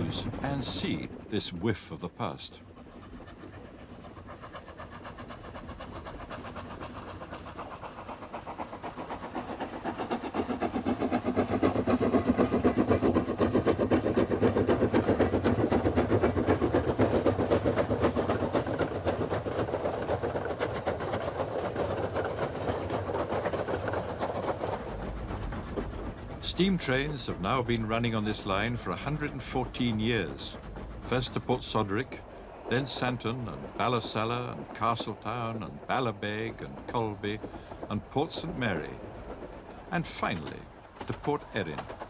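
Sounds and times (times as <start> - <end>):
steam locomotive chuffing: 0.0 - 42.0.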